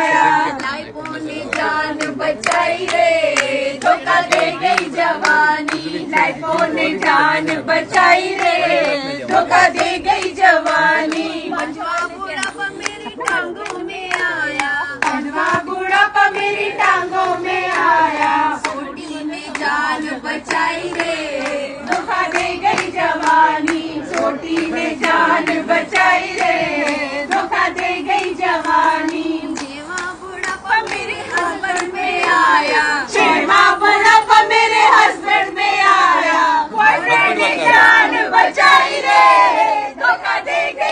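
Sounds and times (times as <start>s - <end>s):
rhythmic hand-clapping: 0.0s - 40.9s
women singing in chorus: 0.0s - 40.9s.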